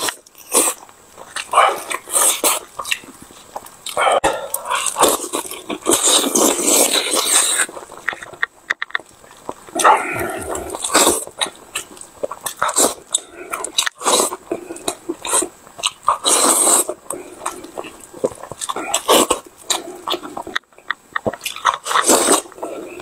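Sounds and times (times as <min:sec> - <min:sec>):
chewing pork skin: 0:00.0 - 0:23.0.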